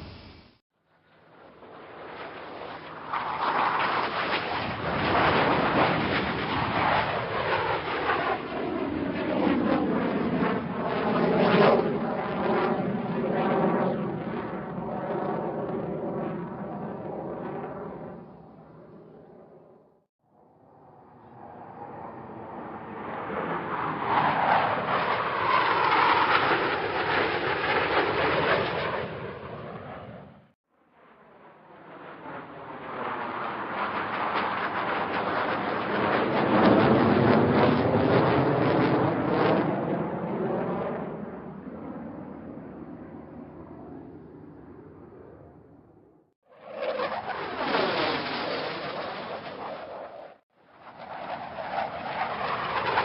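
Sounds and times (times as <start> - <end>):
jet aircraft rushing whine: 0.0 - 0.6, 1.2 - 53.0.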